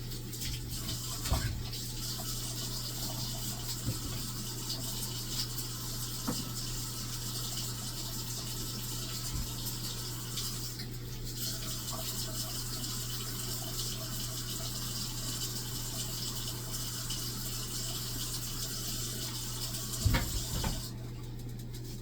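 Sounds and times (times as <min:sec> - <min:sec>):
tap water running: 0:00.0 - 0:22.0.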